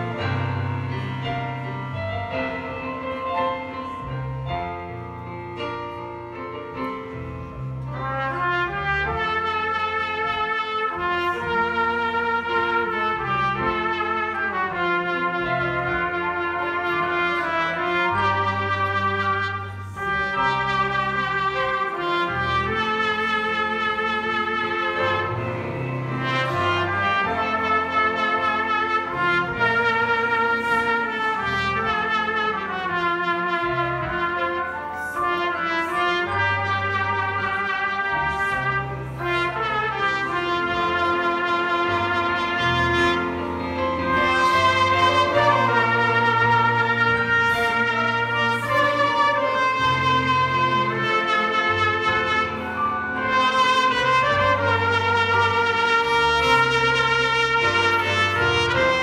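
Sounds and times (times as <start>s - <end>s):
trumpet playing hymn melody: 0.0s - 5.8s, 6.8s - 59.0s
keyboard accompaniment: 0.0s - 59.0s.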